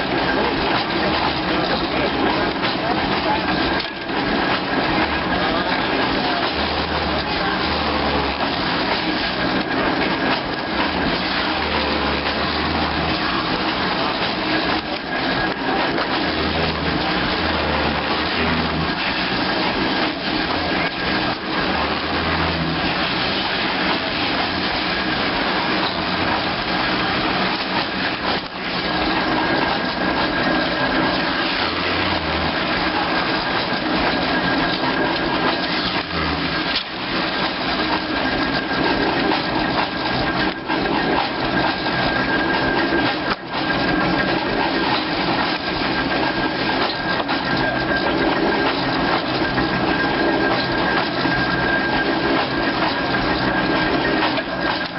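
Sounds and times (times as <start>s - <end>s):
machine clattering: 0.0s - 54.9s
steady high whine: 0.0s - 54.9s.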